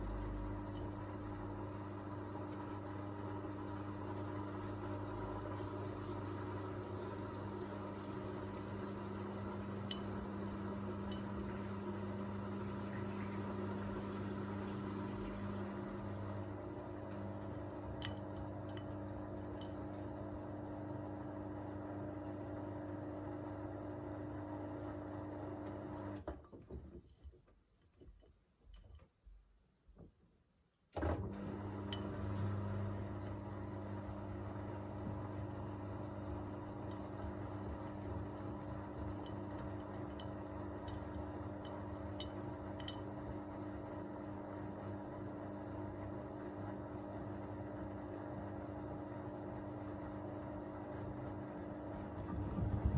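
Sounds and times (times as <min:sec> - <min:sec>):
washing machine drum motor hum: 0:00.0 - 0:27.1, 0:31.0 - 0:52.9.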